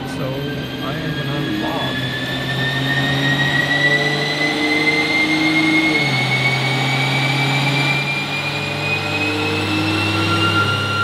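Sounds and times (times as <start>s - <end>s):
car engine running on dyno: 0.0s - 11.0s
high whine: 0.0s - 11.0s.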